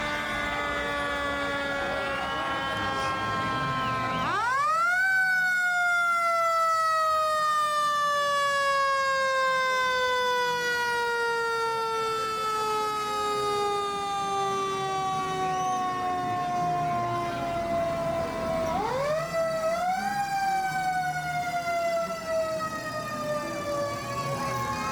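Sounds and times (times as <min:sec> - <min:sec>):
fire truck siren wailing: 0:00.0 - 0:24.9.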